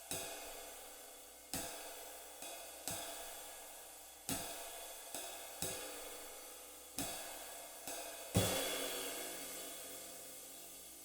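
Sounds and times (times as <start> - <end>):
sizzle ride cymbal strokes: 0.0 - 11.0.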